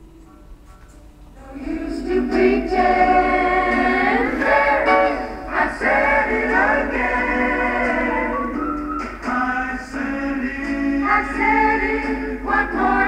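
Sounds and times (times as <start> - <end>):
vocal harmony song from a record: 1.3 - 13.0.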